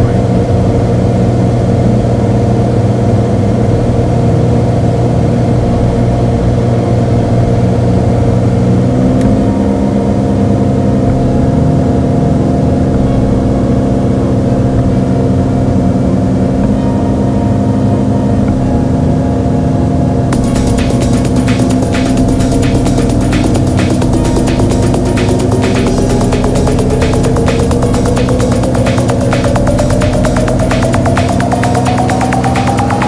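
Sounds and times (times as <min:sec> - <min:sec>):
propeller plane engine droning: 0:00.0 - 0:33.0.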